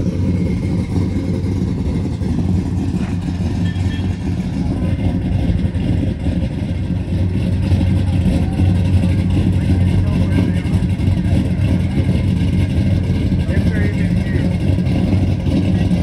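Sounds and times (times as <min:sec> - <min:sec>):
car engine deep rumble: 0:00.0 - 0:16.0.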